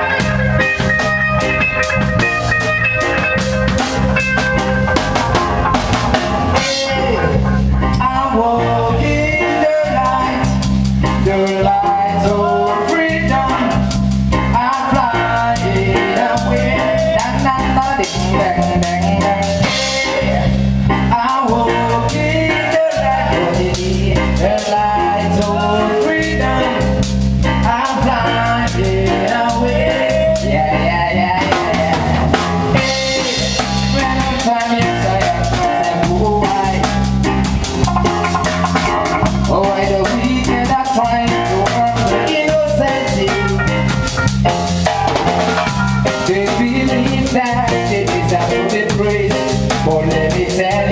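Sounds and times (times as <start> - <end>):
bass line: 0.0 - 50.9
drum kit beat: 0.0 - 50.9
live band playing: 0.0 - 50.9.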